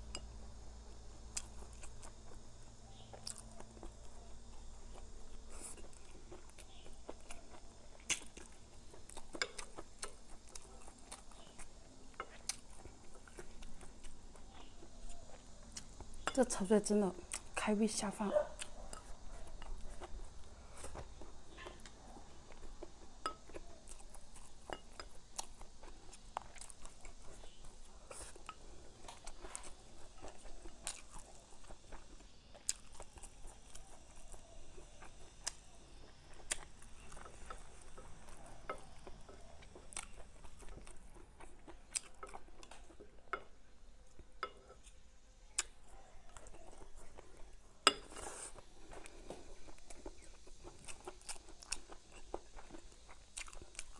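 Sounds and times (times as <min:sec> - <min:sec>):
chewing and crunching: 0:00.8 - 0:53.9.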